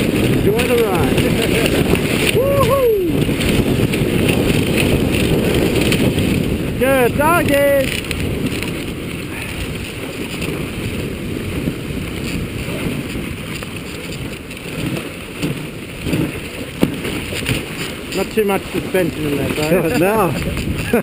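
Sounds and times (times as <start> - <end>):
sled runners on snow: 0.0 - 21.0
wind on microphone: 0.0 - 21.0.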